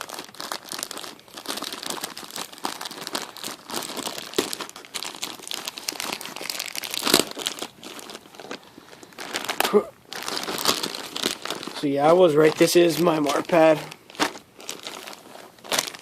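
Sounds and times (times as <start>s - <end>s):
plastic mailer bag crinkling: 0.0s - 16.0s.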